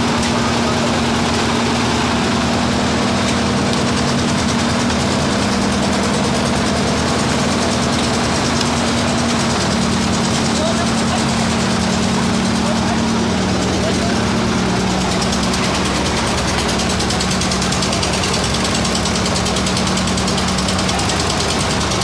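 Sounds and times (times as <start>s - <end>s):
concrete mixer engine humming: 0.0s - 22.0s.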